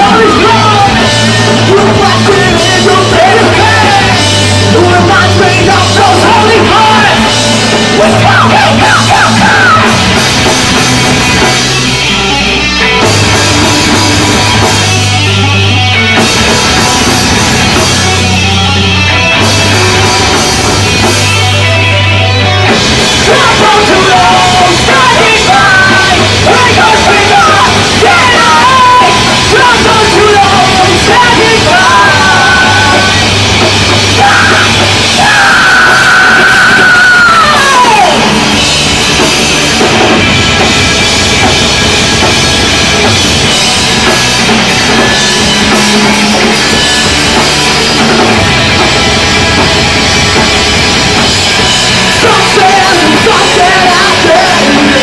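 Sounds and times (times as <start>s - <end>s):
high wavering guitar lead: 0.0s - 55.0s
live rock band playing: 0.0s - 55.0s.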